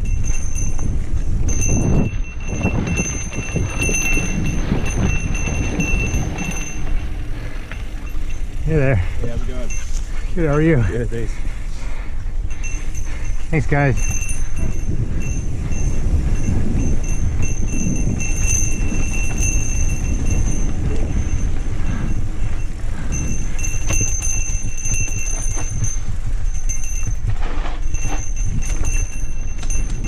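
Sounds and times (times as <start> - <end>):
bike rattling and clicking: 0.0 - 30.0
bike tyres rumbling on dirt: 0.2 - 30.0.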